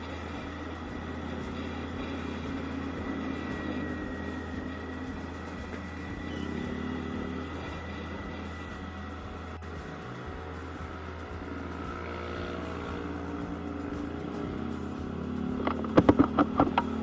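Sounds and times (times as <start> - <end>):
scooter engine hum: 0.0 - 17.0
wind and road noise: 0.0 - 17.0.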